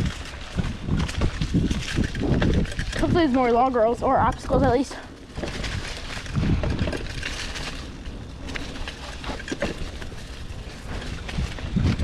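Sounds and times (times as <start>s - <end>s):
bike clicking and rattling: 0.0s - 12.0s
wind rumble on microphone: 0.0s - 12.0s.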